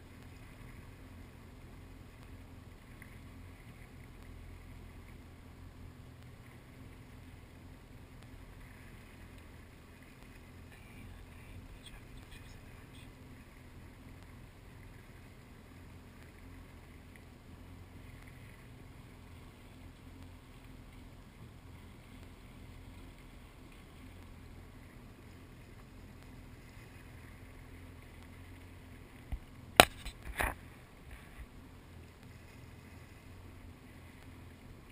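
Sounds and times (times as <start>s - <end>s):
boat engine humming: 0.0s - 34.9s.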